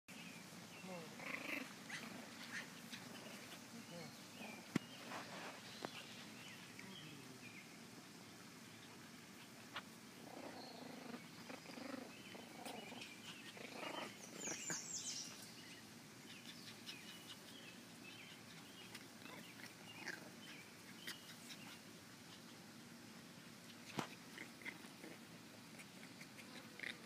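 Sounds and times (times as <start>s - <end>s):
puppies growling softly: 0.8s - 27.0s.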